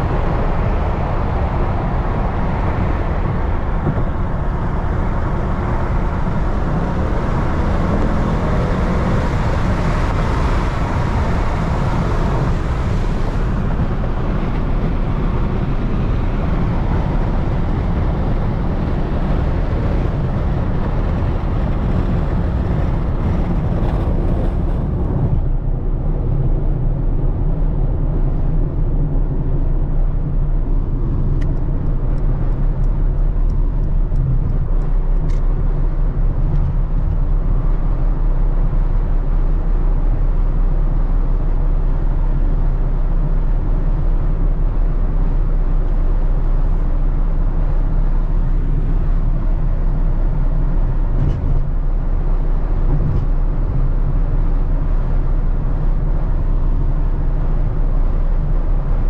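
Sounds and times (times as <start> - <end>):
deep engine and road rumble: 0.0 - 59.0.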